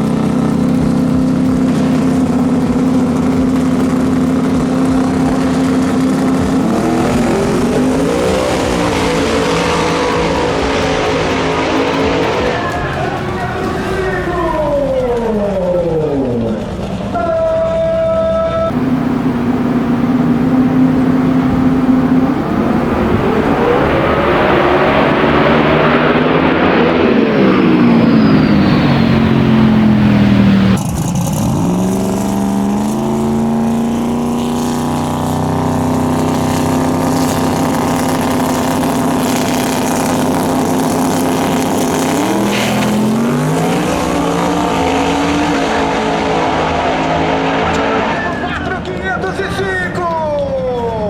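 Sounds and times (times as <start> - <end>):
drag racing car engine revving: 0.0 - 51.0.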